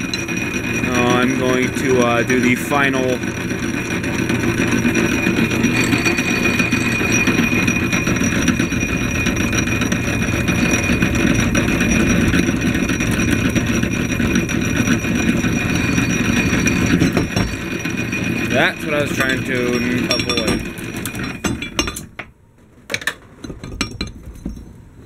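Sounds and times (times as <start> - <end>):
drill bit cutting steel: 0.0 - 21.3
drill press running: 0.0 - 21.9.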